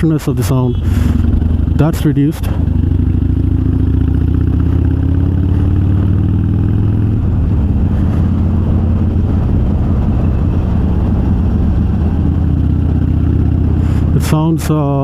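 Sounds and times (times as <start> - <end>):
motorcycle exhaust running: 0.0 - 15.0.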